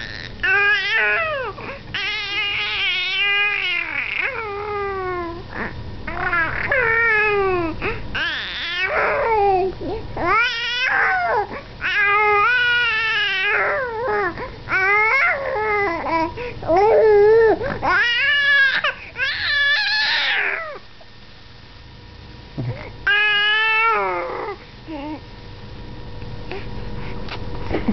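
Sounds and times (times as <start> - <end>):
baby mewing cries: 0.0 - 20.8, 23.0 - 25.2.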